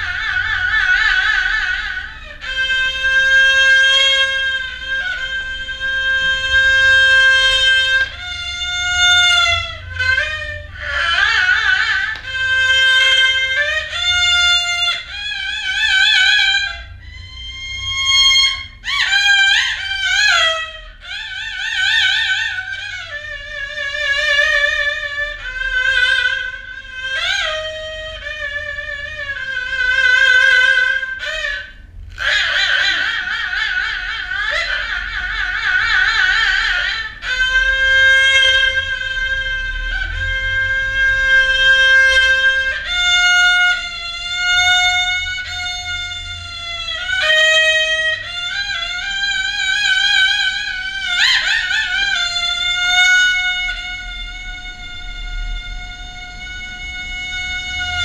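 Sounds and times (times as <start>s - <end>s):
bowed fiddle with vibrato: 0.0s - 58.0s.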